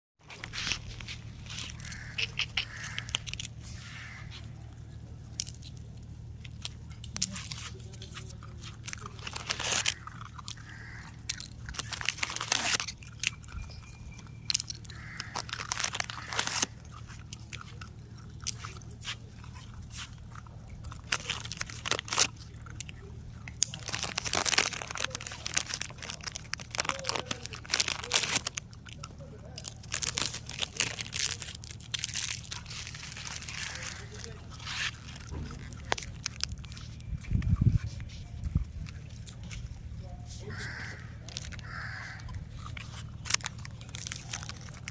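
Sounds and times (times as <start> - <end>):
puppies crunching food: 0.2 - 44.9.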